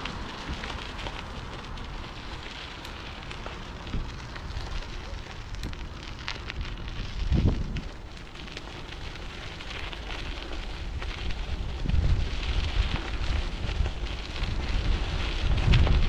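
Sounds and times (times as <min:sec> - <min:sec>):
bicycle rumbling and rattling over paving: 0:00.0 - 0:16.0
wind buffeting microphone: 0:00.0 - 0:16.0.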